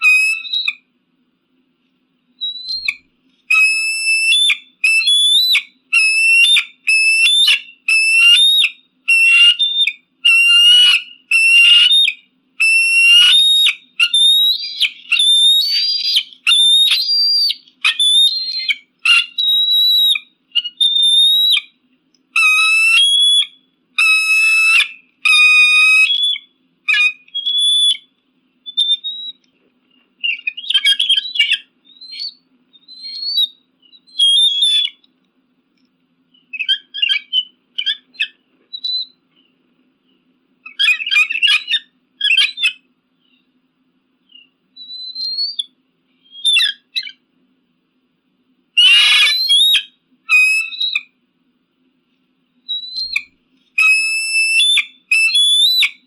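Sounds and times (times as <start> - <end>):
eagle calling: 0.0 - 0.9, 2.4 - 21.8, 22.4 - 28.1, 30.2 - 35.1, 36.4 - 39.2, 40.6 - 43.4, 44.3 - 47.2, 48.8 - 51.2, 52.7 - 56.0.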